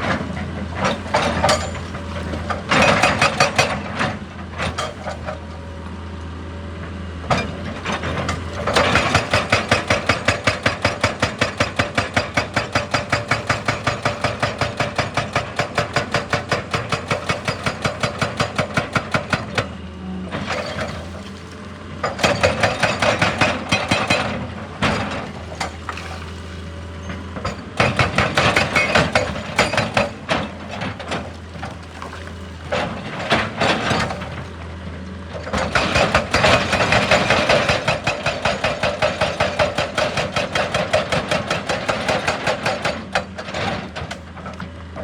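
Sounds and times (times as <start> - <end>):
hydraulic breaker hammering rock: 0.0 - 5.7, 7.3 - 34.6, 35.5 - 44.5
diesel engine running: 0.0 - 40.0.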